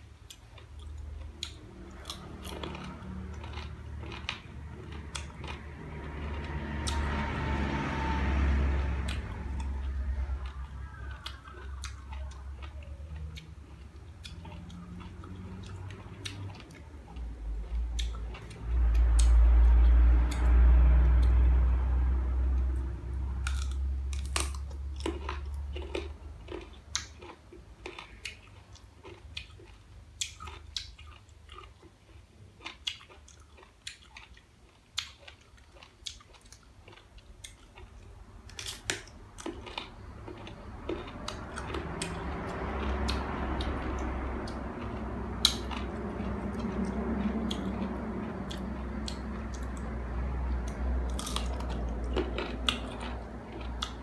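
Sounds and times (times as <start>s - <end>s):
muffled chewing: 0.0s - 7.2s, 8.7s - 21.5s, 22.6s - 54.0s.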